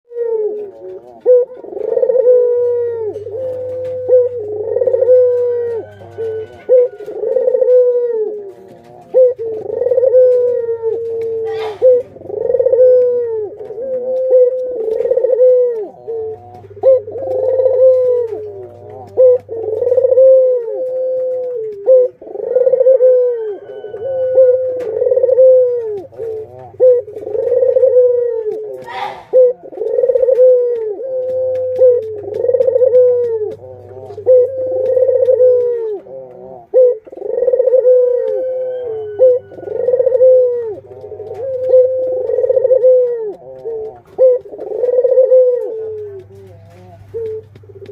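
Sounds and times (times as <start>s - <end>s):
doves cooing: 0.1s - 47.9s.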